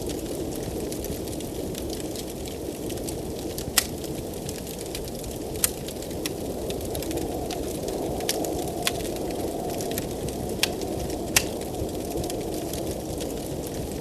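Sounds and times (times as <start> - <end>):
loud fire pops: 0.0 - 14.0
low rush of blizzard wind: 0.0 - 14.0
wood fire crackling: 0.0 - 14.0.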